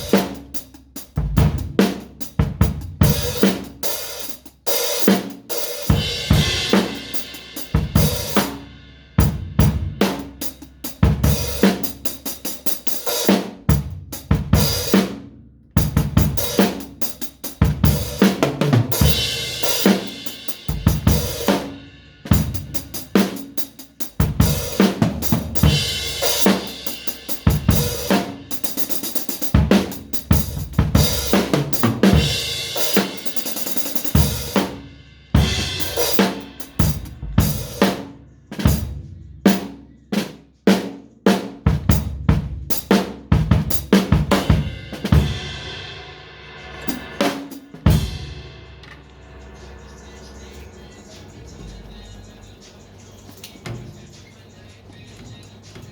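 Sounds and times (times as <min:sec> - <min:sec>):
drum kit playing: 0:00.0 - 0:55.9.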